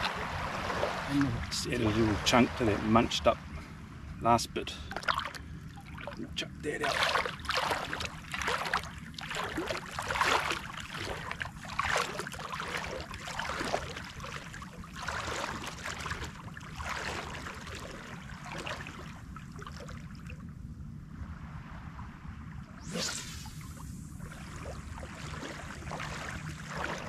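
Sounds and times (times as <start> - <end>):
wading through shallow water: 0.0 - 20.6, 21.2 - 27.0
steady low rumble: 0.0 - 27.0.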